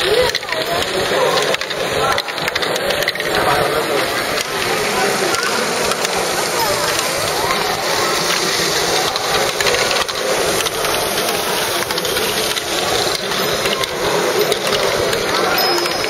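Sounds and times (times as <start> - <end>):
motors and gears whirring: 0.0 - 16.0
plastic balls clattering: 0.0 - 16.0.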